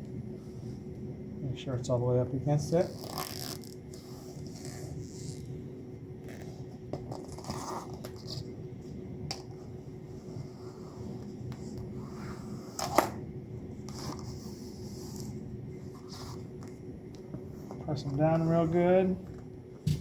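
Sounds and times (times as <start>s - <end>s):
low shop hum: 0.0s - 20.0s.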